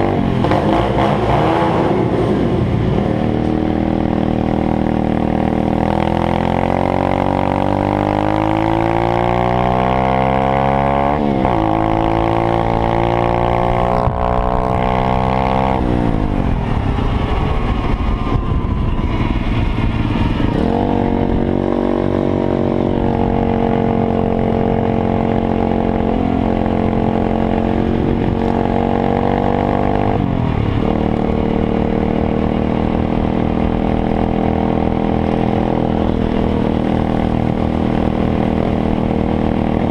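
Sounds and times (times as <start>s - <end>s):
small motorbike engine accelerating: 0.0s - 39.9s.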